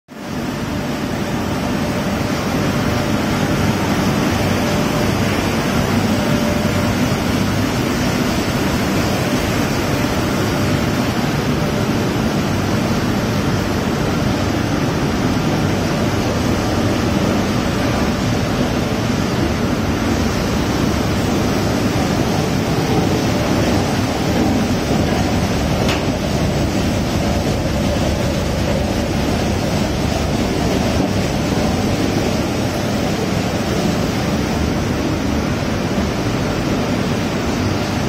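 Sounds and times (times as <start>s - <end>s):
printing press running: 0.4s - 38.0s.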